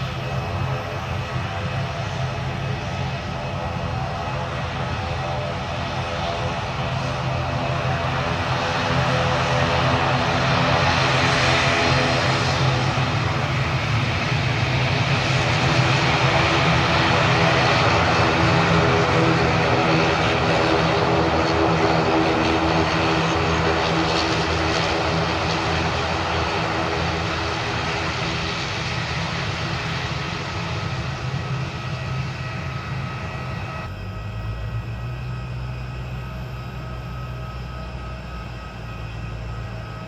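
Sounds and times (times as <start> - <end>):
airliner engines running: 0.0 - 40.0.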